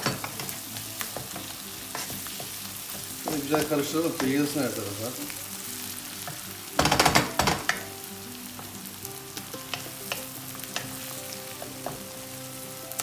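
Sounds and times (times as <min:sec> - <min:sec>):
onions sizzling in a wok: 0:00.0 - 0:13.0.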